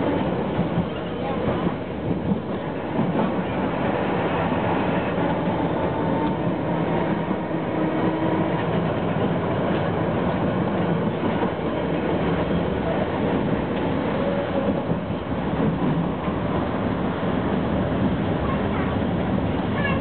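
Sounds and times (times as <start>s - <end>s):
tram wheels rumbling on rails: 0.0s - 20.0s.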